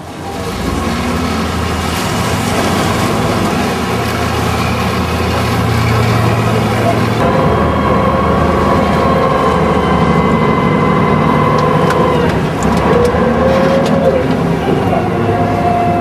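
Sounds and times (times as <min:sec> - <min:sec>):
boat engine running: 0:00.0 - 0:16.0
water churning: 0:00.0 - 0:16.0.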